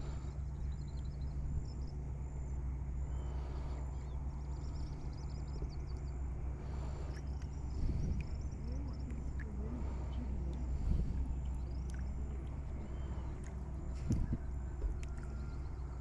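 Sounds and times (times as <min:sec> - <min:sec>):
small birds chirping: 0:00.0 - 0:02.2, 0:03.0 - 0:16.0
steady low hum: 0:00.0 - 0:16.0.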